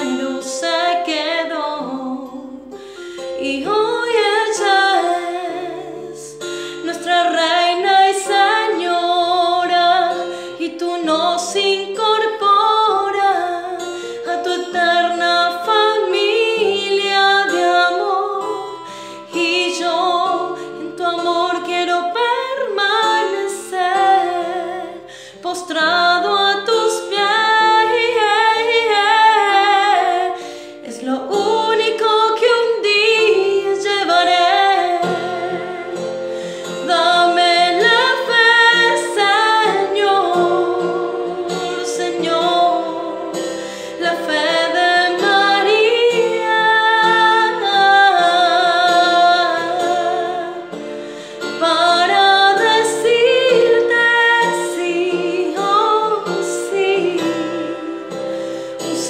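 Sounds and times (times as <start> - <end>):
woman singing with vibrato: 0.0 - 59.0.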